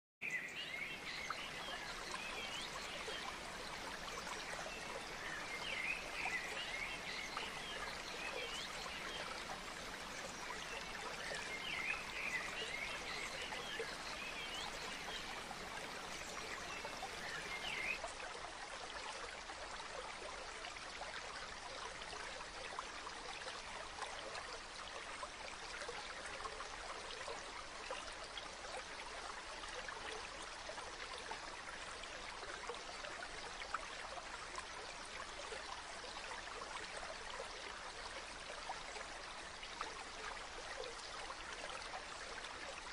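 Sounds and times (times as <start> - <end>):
rushing water: 0.2 - 42.9.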